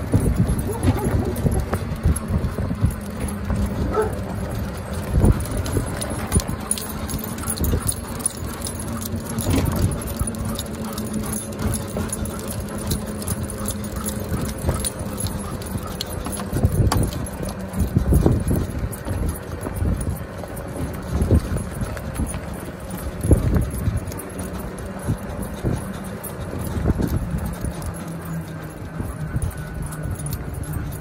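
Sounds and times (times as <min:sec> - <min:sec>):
dog paws on pavement: 0:00.0 - 0:31.0
harness hardware jangling: 0:00.0 - 0:31.0
steady low hum: 0:00.0 - 0:31.0.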